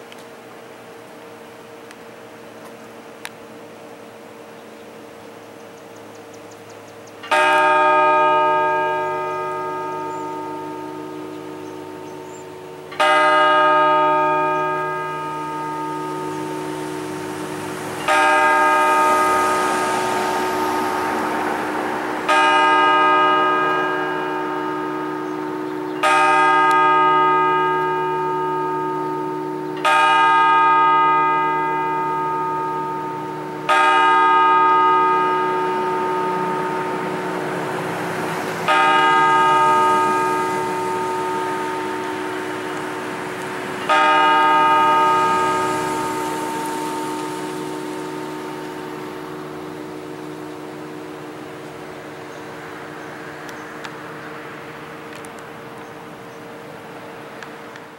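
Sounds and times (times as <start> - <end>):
clock tower bell striking: 7.2 - 55.8.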